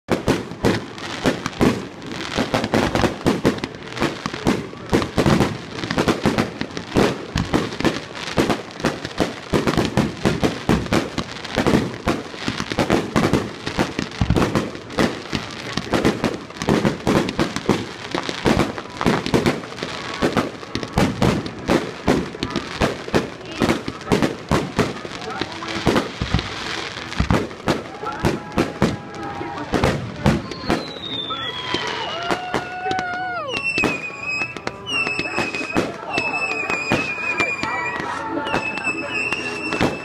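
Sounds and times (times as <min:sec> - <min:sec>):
fireworks launching and bursting: 0:00.1 - 0:40.0.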